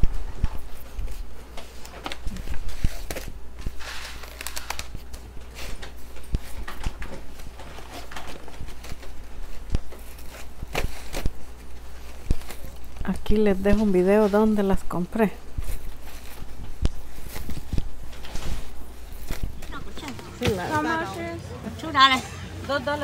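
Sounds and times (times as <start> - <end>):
banana leaves rustling: 0.5 - 21.0.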